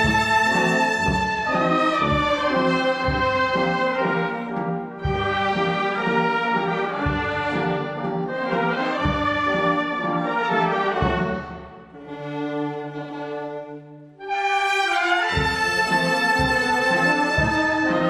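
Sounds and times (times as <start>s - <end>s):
brass chords: 0.0s - 18.0s.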